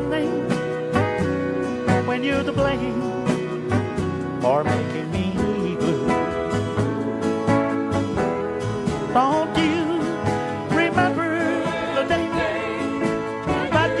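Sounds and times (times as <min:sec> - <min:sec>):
country band playing ballad: 0:00.0 - 0:14.0.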